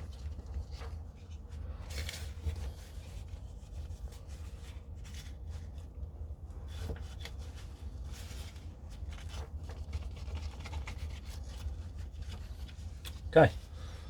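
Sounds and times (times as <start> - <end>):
cloth rubbing over plastic: 0.0 - 13.8
steady low hum: 0.0 - 14.0.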